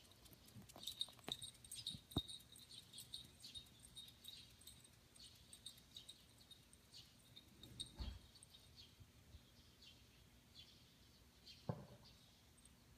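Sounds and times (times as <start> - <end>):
faint bird chirps: 0.3 - 12.9.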